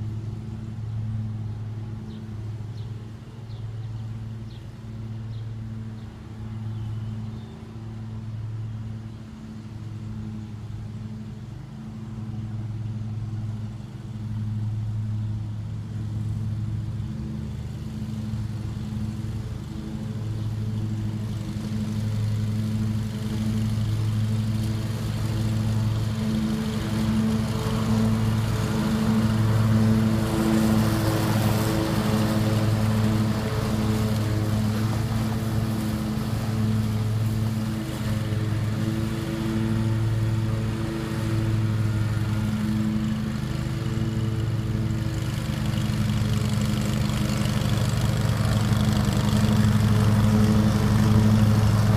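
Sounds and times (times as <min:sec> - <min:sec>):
riding lawn mower engine: 0:00.0 - 0:51.9.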